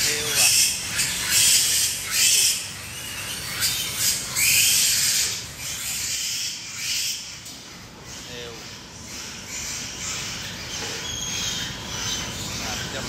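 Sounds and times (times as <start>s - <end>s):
piglets squealing: 0.0s - 7.4s, 8.0s - 13.0s
low background hum: 0.0s - 13.0s.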